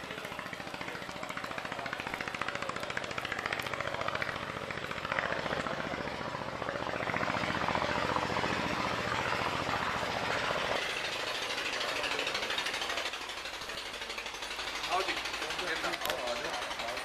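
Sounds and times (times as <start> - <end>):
engine low rumble: 0.0 - 17.0
engine pulsing beat: 0.0 - 17.0.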